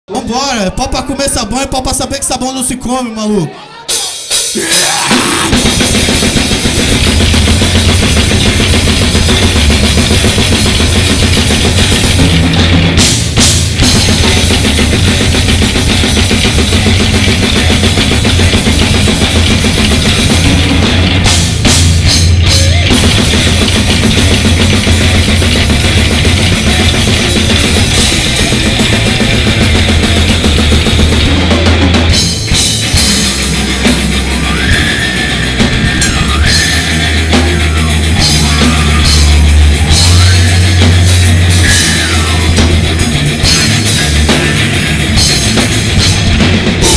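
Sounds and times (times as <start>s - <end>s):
extreme metal band playing live: 0.1s - 46.9s.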